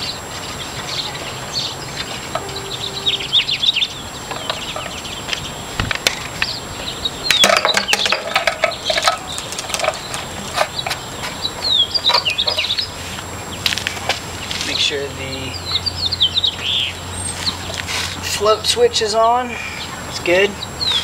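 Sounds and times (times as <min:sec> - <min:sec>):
small birds chirping: 0:00.0 - 0:13.7, 0:14.3 - 0:17.8, 0:19.6 - 0:21.0.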